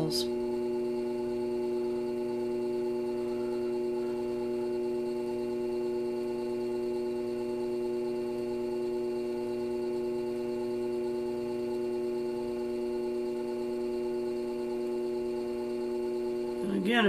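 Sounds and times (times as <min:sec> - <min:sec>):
pottery wheel motor hum: 0:00.0 - 0:17.0.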